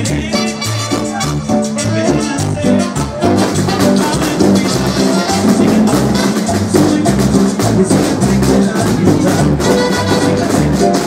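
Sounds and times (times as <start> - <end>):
live latin dance band: 0.0 - 11.0.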